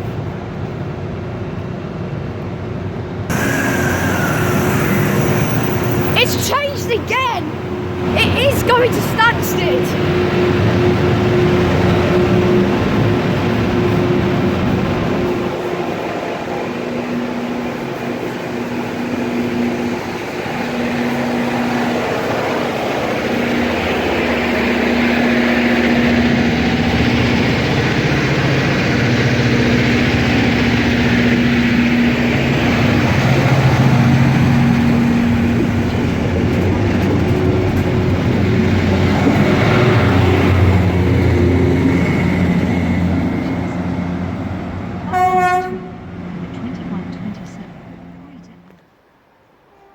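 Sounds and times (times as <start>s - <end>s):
diesel engines humming: 3.3s - 48.6s.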